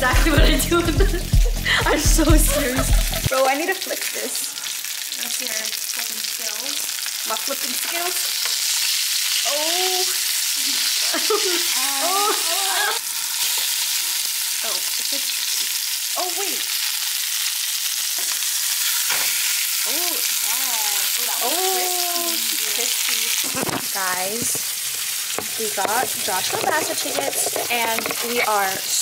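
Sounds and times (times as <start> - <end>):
fish sizzling in frying pan: 0.0 - 29.0.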